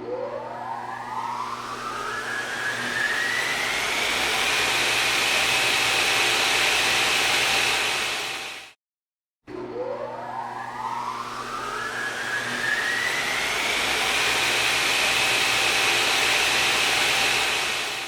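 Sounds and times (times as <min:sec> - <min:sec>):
motor whine spinning up: 0:00.0 - 0:08.8, 0:09.5 - 0:18.0.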